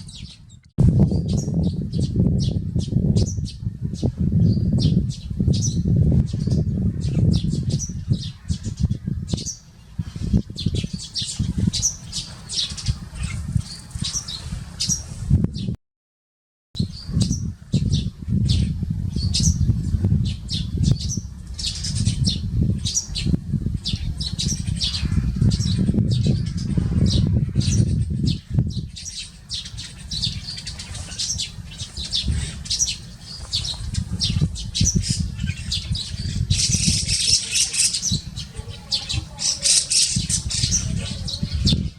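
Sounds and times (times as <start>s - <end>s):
flock of sparrows chirping: 0.0s - 15.7s, 16.8s - 41.9s.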